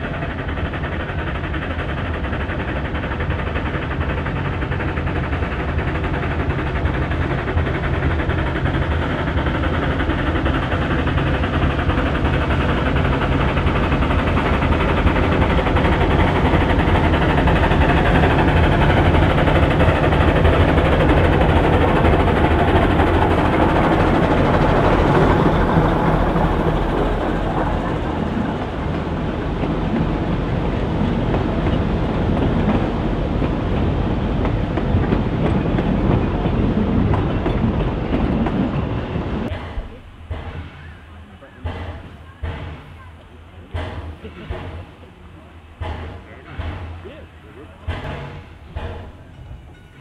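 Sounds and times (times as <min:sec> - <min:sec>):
steam train rumbling on track: 0:00.0 - 0:50.0.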